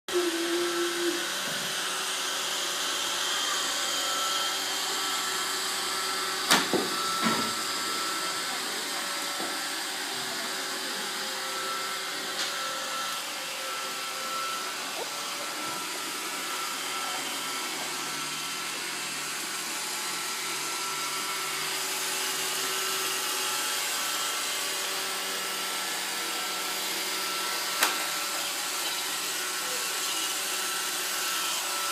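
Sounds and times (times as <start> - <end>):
robot vacuum whirring: 0.1 - 31.9.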